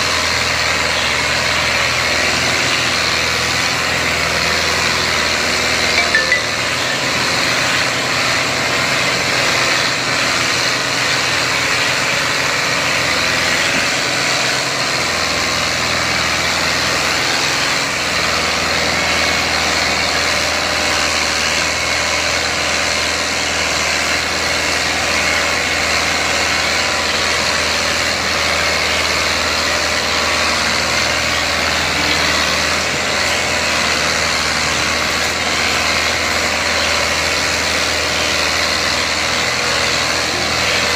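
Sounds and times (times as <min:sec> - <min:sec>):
tractor diesel engines under load: 0:00.0 - 0:40.9.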